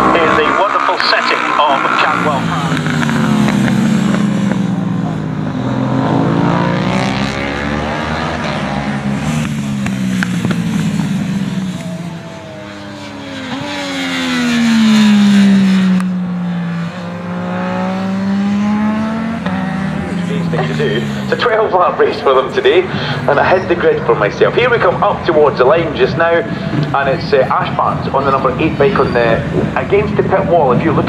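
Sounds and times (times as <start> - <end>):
motorcycles passing at speed: 0.0 - 31.0.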